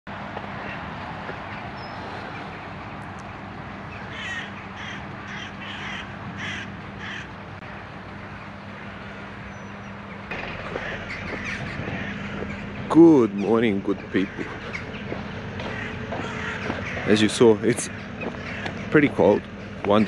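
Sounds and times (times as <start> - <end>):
distant city traffic: 0.1 - 20.0
bird calling: 0.2 - 20.0.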